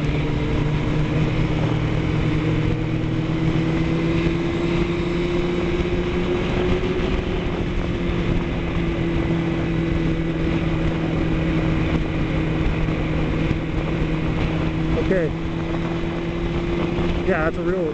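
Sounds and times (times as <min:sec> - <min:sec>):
road and wind noise: 0:00.0 - 0:17.9
vehicle engine drone: 0:00.0 - 0:17.9.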